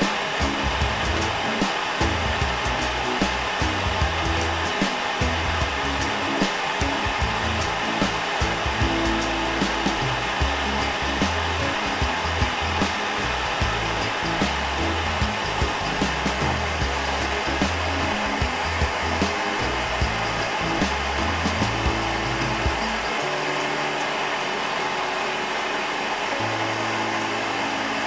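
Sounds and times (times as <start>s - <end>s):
background music: 0.0s - 28.0s
torch flame hissing: 0.0s - 28.0s.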